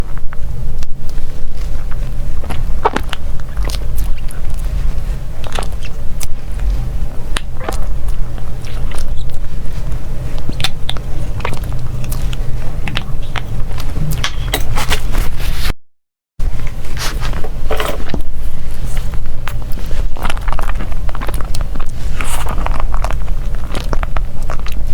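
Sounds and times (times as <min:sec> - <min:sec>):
steady low rumble: 0:00.0 - 0:15.7, 0:16.4 - 0:24.9
crunchy bites and chewing: 0:00.8 - 0:15.6, 0:16.6 - 0:24.9.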